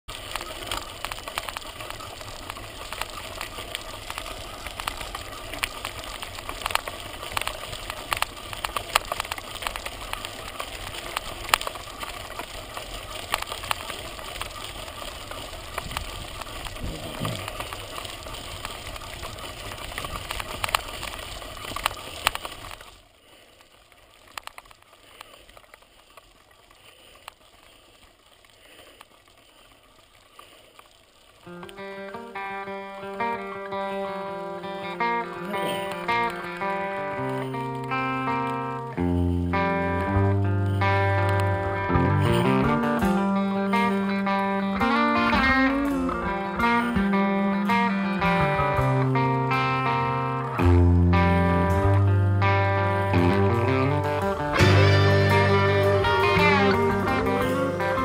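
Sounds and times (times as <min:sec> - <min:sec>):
bike rattling clicks: 0:00.1 - 0:23.0, 0:23.6 - 0:58.0
bike tyres crunching on gravel: 0:00.1 - 0:58.0.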